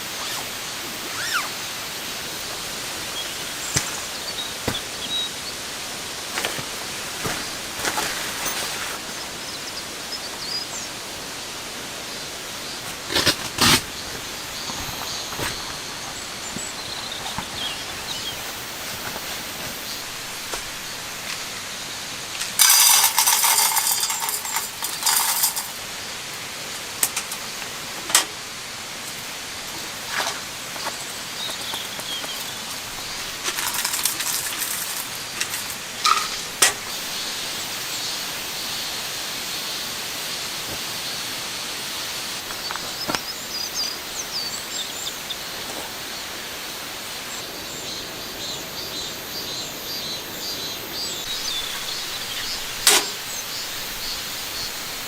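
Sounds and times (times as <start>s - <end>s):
crackling rain patter: 0.0s - 55.0s
steady rain hiss: 0.0s - 55.0s.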